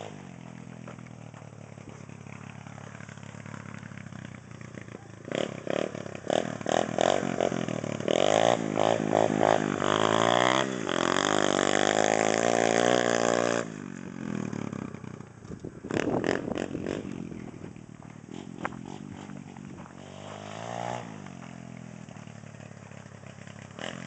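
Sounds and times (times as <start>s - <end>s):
motorbike engine revving: 0.0s - 24.0s.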